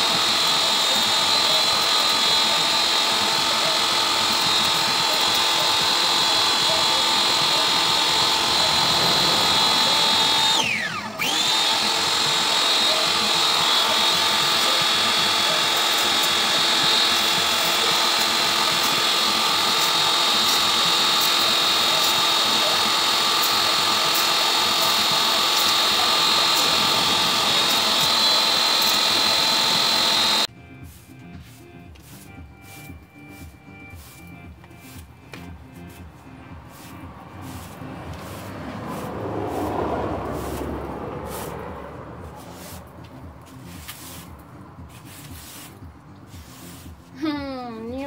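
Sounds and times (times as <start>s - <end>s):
pressure washer whining: 0.0s - 48.0s.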